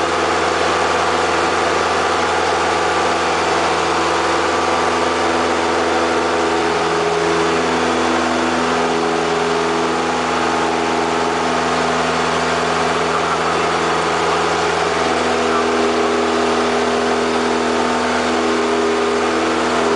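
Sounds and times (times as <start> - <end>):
propeller aircraft engine running: 0.0 - 19.9.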